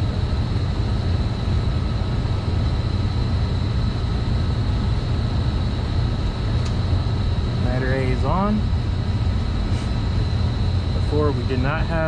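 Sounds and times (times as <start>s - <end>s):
boiler machinery drone: 0.0s - 12.0s
faint high whine: 0.0s - 12.0s.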